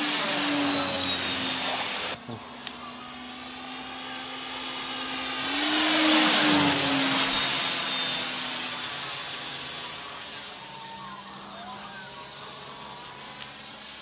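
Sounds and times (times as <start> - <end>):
model plane motor whine: 0.0 - 14.0.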